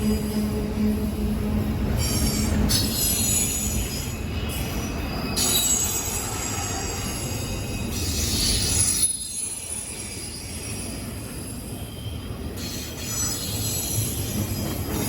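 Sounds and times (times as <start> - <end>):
train rumble: 0.0 - 15.0
train wheels squealing: 0.0 - 15.0.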